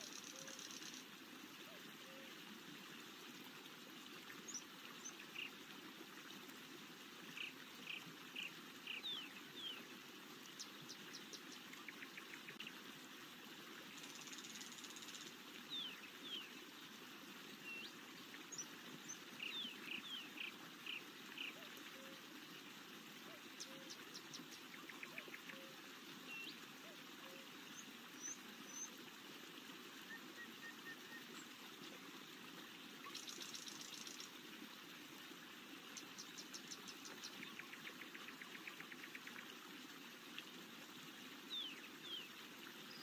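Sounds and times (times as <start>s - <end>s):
running water: 0.0s - 43.0s.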